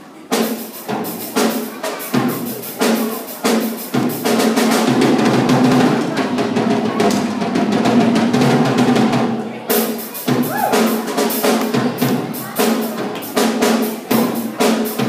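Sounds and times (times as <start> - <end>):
drum kit playing: 0.1 - 15.0.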